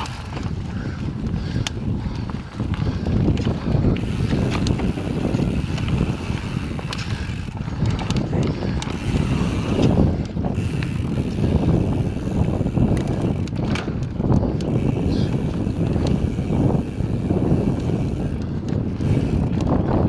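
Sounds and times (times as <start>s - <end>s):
bike clicks and rattles: 0.0s - 20.0s
wind buffeting microphone: 0.0s - 20.0s.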